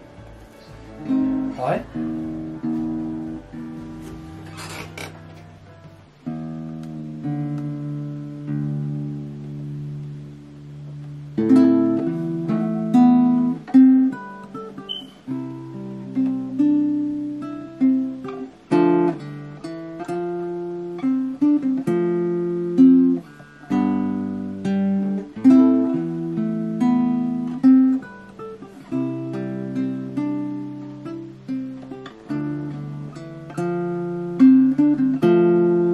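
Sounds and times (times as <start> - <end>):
fingerstyle nylon-string guitar: 0.0 - 35.9.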